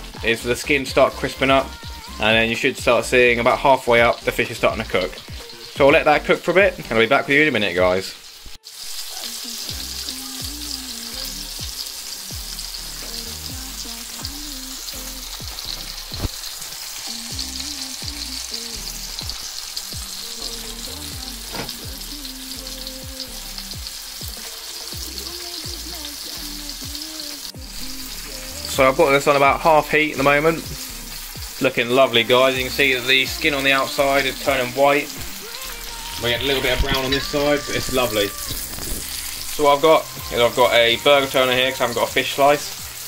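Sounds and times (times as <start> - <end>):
fish sizzling in a frying pan: 0.0 - 43.0
oil popping: 7.7 - 43.0.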